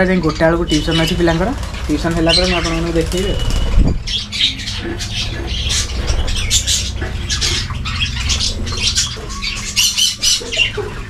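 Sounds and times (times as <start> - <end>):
budgerigars chattering: 0.0 - 11.0
low steady hum: 0.0 - 11.0.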